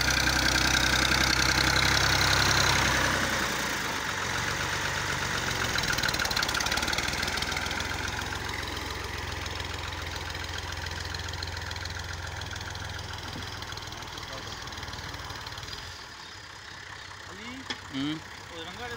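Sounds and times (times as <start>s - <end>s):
tractor diesel engine throbbing: 0.0s - 18.9s.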